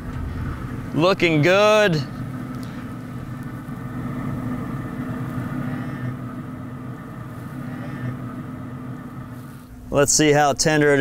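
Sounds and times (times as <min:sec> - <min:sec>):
blower fan humming: 0:00.0 - 0:11.0.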